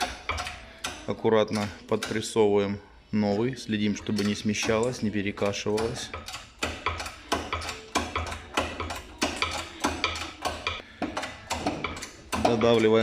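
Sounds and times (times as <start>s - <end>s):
press clicking and clanking: 0.0s - 2.4s, 4.0s - 13.0s.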